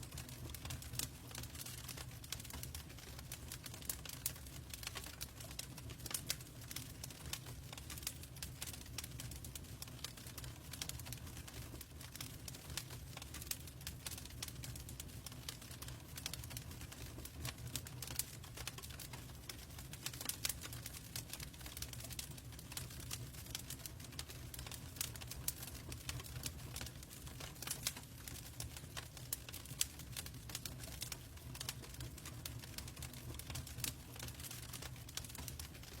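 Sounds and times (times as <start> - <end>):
logs crackling and popping: 0.0 - 36.0
low rumble of flames: 0.0 - 36.0.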